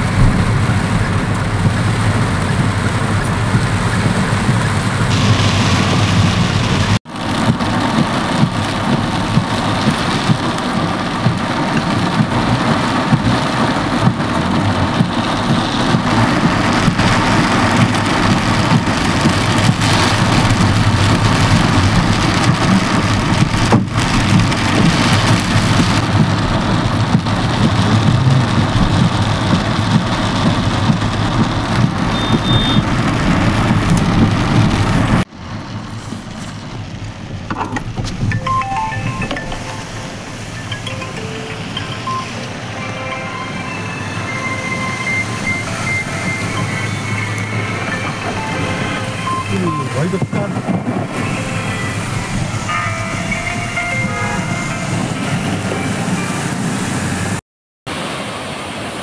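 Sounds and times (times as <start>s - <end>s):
engine and tyres on wet road: 0.0s - 59.0s
heavy rain drumming on car roof: 0.0s - 59.0s.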